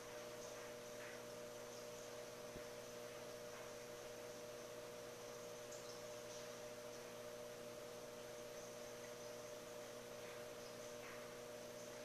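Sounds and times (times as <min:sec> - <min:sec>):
aquarium equipment hum and hiss: 0:00.0 - 0:12.0.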